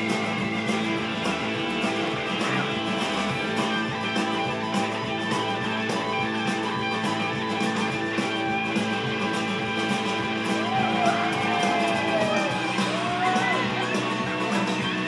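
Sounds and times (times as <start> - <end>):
drum beat: 0.0 - 15.0
electric guitar chords: 0.0 - 15.0.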